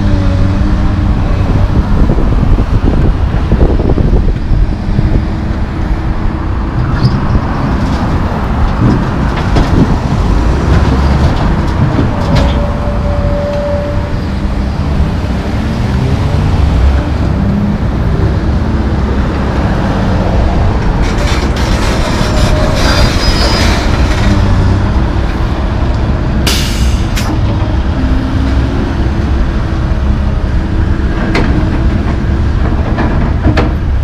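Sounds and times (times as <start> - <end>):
excavator diesel engine: 0.0 - 34.0
road traffic passing: 0.0 - 34.0.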